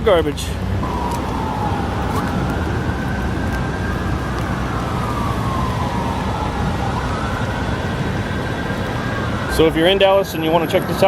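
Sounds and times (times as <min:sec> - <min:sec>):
city traffic noise: 0:00.0 - 0:11.0
emergency siren wailing: 0:00.8 - 0:11.0.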